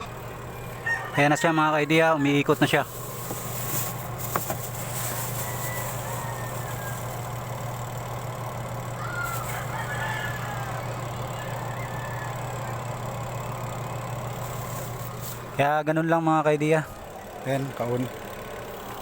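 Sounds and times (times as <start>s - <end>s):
spin-dryer motor humming: 0.0s - 19.0s.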